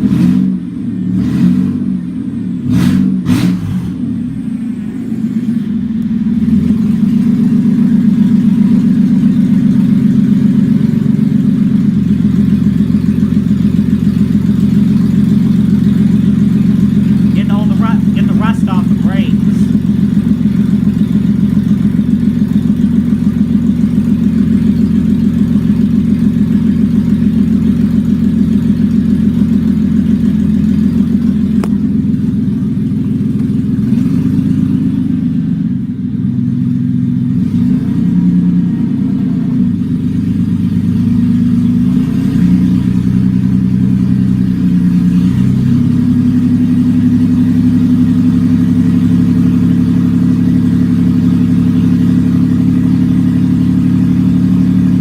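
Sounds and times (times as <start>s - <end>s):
car engine with open exhaust: 0.0s - 55.0s.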